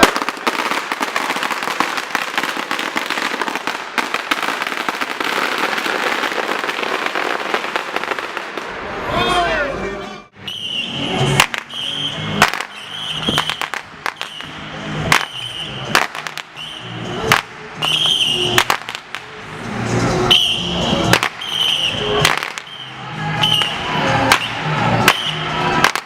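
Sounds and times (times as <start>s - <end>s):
fireworks banging and crackling: 0.0s - 9.1s, 11.2s - 26.0s.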